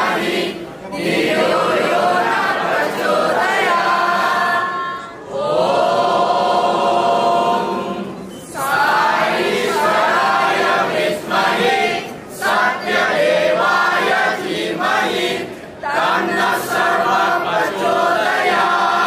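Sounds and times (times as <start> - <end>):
young voices singing in unison: 0.0 - 19.0.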